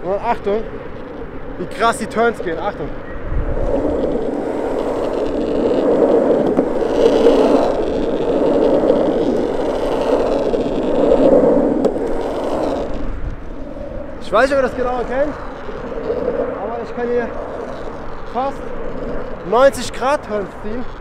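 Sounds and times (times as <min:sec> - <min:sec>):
skateboard wheels rolling on asphalt: 0:00.0 - 0:21.0.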